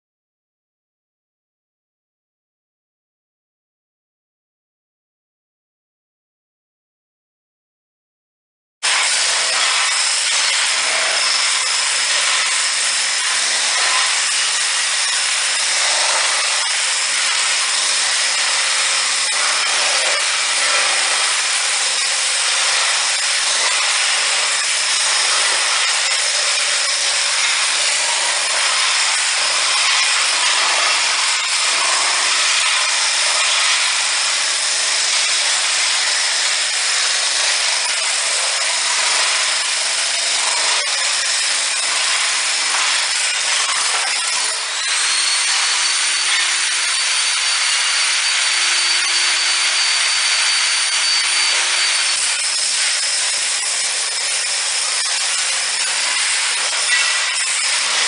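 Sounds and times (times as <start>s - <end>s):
machine rushing with high whine: 8.9s - 57.9s.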